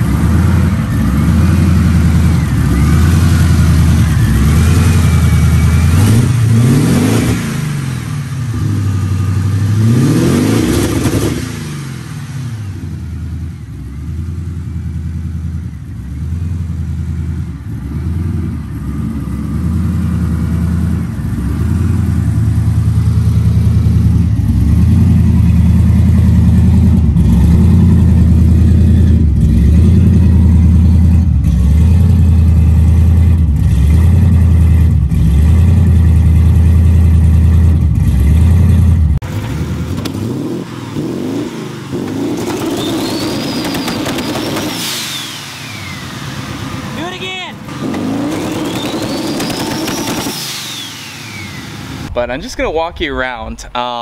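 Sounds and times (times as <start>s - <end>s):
car engine idling: 0.0s - 10.0s, 11.0s - 54.0s
engine revving: 0.0s - 14.7s, 15.3s - 52.2s.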